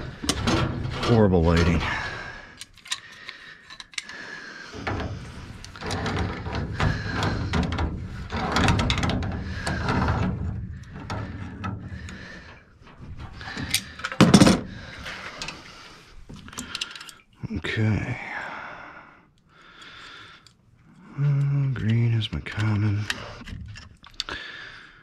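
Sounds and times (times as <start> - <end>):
wrench scraping and clicking on pipe: 0.0 - 17.4, 19.4 - 24.6.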